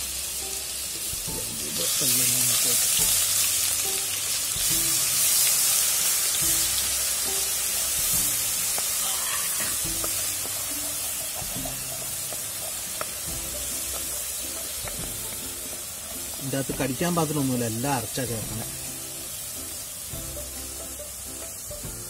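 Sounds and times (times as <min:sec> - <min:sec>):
background music: 0:00.0 - 0:22.0
hot oil sizzling: 0:00.0 - 0:22.0.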